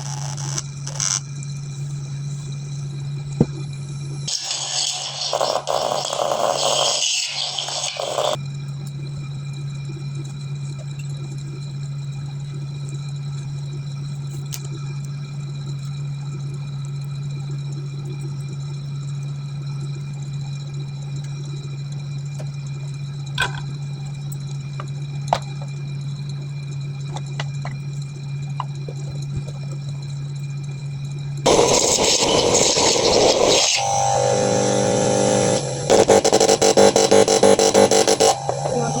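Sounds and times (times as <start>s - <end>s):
low hum: 0.6s - 4.3s, 8.4s - 39.0s.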